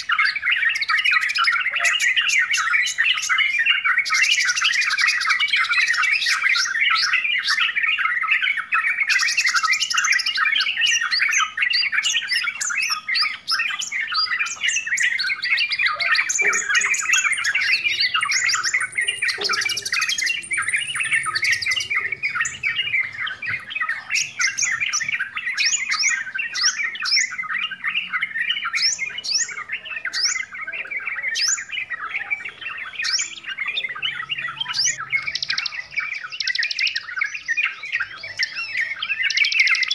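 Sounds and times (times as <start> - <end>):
bird chattering: 0.0 - 39.9.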